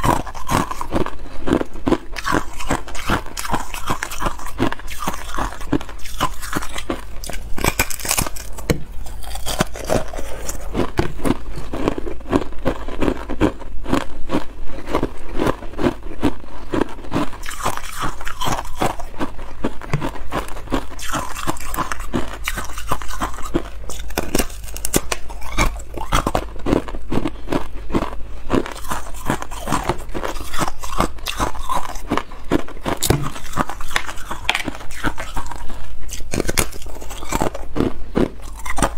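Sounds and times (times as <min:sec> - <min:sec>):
ice being chewed and crunched: 0:00.0 - 0:38.9.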